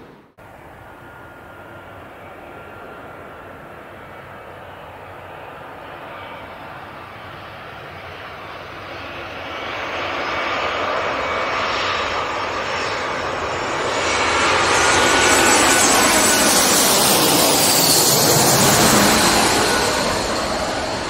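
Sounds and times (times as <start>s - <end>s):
jet airliner engines roaring: 0.0s - 21.0s
jet engine whine sliding down: 0.0s - 21.0s.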